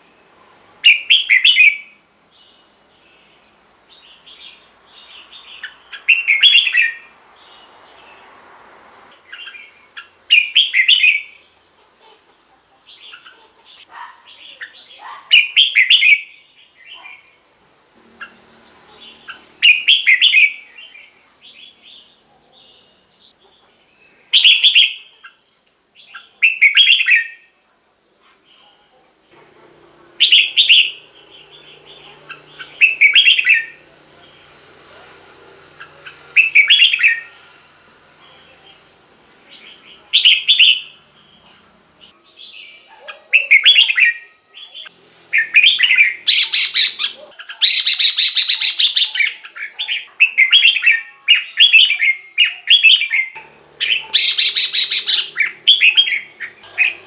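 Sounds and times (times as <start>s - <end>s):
bird singing: 0.0s - 8.4s, 9.1s - 11.8s, 12.7s - 27.6s, 30.0s - 57.0s.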